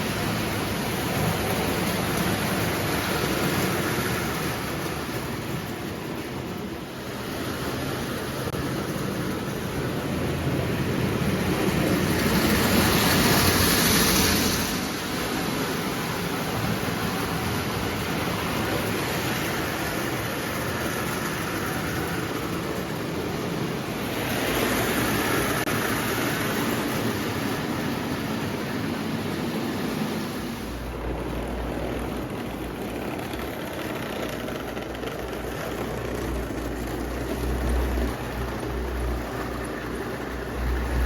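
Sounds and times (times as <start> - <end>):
toy electric train running: 0.0 - 29.9, 30.9 - 41.0.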